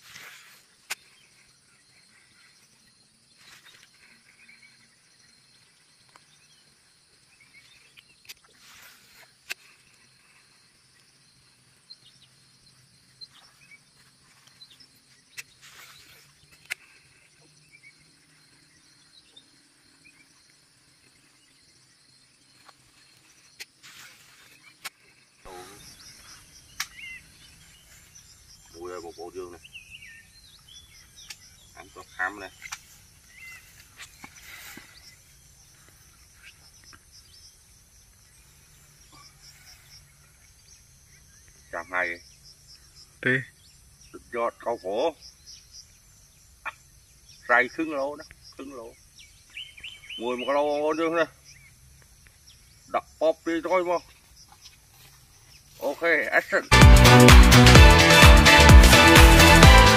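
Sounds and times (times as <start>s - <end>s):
small birds chirping: 0.0s - 56.8s.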